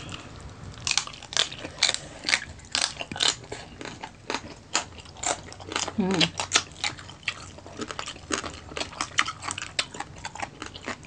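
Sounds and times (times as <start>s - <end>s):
person chewing crisp food: 0.0s - 11.0s.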